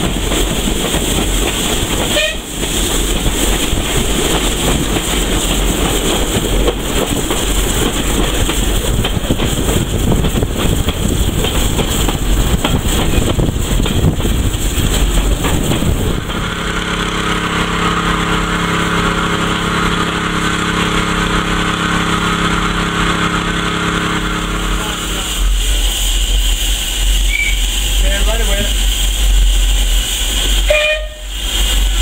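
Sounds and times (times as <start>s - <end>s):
steady engine drone: 0.0s - 32.0s
train rumble with rail clicks: 0.0s - 32.0s.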